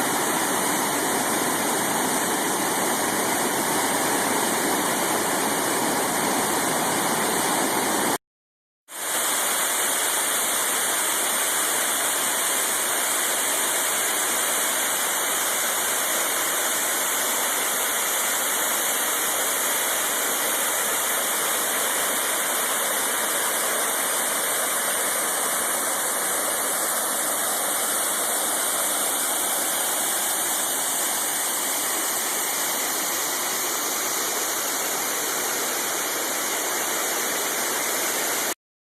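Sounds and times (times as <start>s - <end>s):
rushing waterfall: 0.0s - 8.2s, 9.0s - 38.6s.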